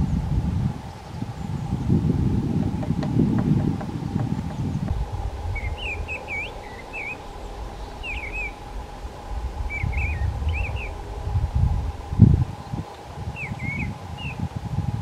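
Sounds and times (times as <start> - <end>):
bird chirping: 0.0 - 14.5
wind rumble on microphone: 0.0 - 15.0.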